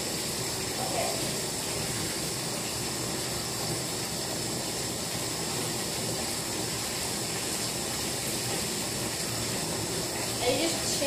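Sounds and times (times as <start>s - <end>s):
bath tap running: 0.0s - 11.0s.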